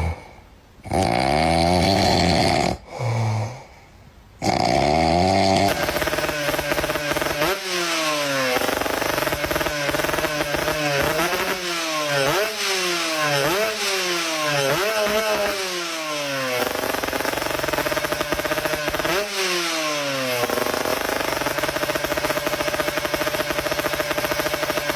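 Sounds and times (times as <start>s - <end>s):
small engine idling and revving: 4.4s - 24.9s.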